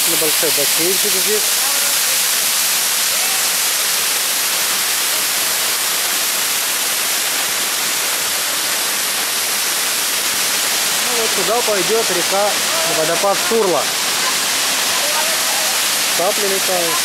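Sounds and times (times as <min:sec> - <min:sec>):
waterfall pouring over rock: 0:00.0 - 0:17.0.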